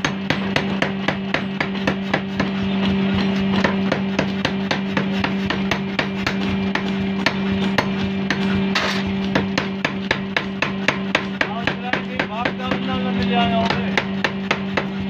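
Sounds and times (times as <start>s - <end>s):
electric motor hum: 0.0s - 15.0s
power hammer blows on metal: 0.0s - 15.0s.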